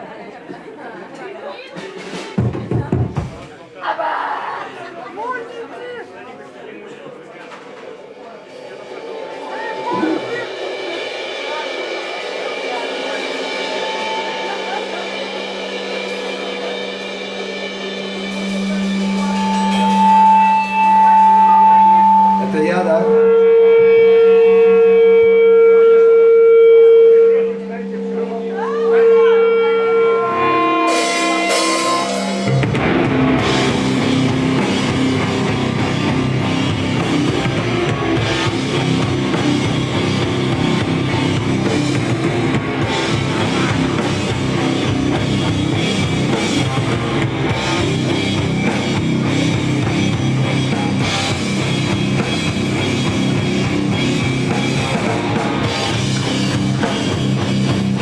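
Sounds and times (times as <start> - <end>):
live rock band playing: 0.0 - 3.7, 7.4 - 58.0.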